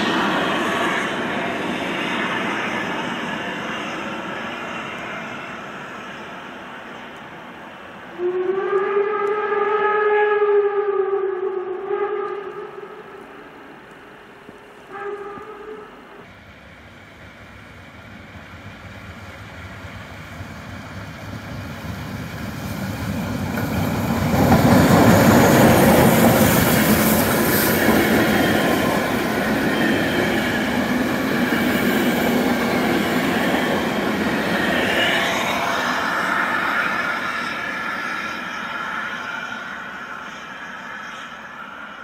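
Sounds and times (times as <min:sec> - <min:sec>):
steam locomotive passing: 0:00.0 - 0:42.0
train wheel and rail noise: 0:00.0 - 0:42.0.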